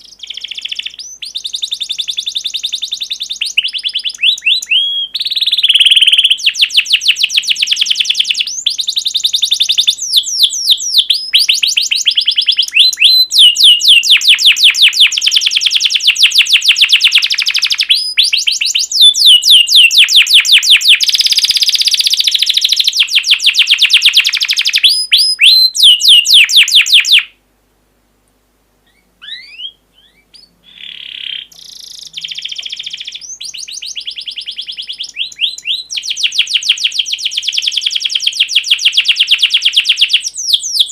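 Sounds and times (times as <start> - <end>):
songbird fast chirping song: 0.0 - 27.4, 28.8 - 40.9.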